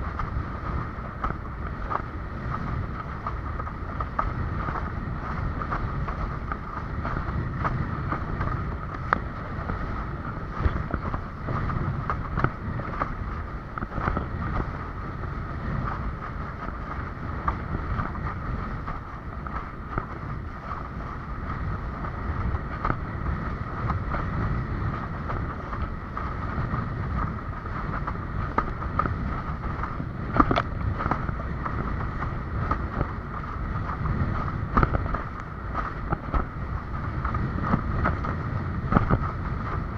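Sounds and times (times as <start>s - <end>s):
steady high hum: 0.0s - 39.9s
wind buffeting microphone: 0.0s - 39.9s.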